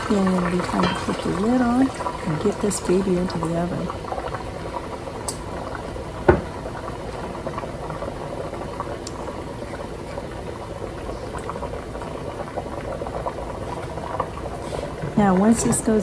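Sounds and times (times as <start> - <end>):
broth bubbling and sizzling: 0.0 - 16.0.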